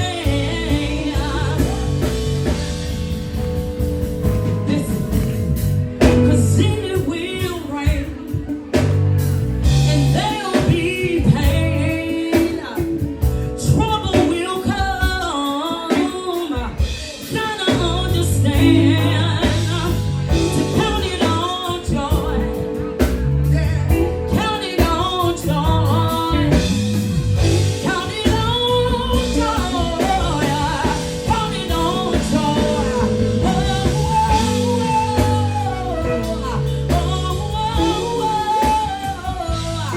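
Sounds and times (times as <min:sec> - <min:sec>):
bass guitar and drums accompaniment: 0:00.0 - 0:39.9
woman singing soul song: 0:00.0 - 0:39.9.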